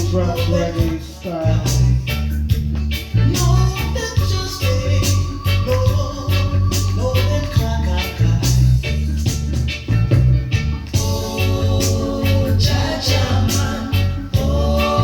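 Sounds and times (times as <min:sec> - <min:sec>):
heavy bass line: 0:00.0 - 0:15.0
reggae music: 0:00.0 - 0:15.0
shaker percussion: 0:00.0 - 0:15.0.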